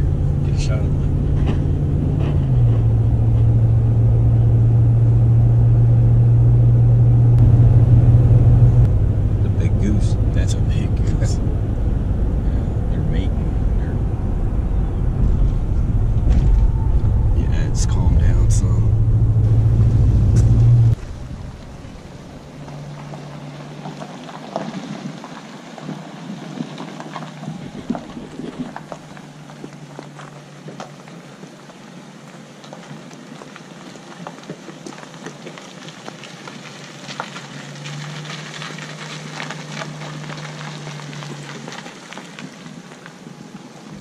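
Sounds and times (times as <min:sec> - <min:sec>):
truck engine hum: 0:00.0 - 0:35.0, 0:35.6 - 0:44.0
tires crackling on gravel: 0:00.0 - 0:44.0.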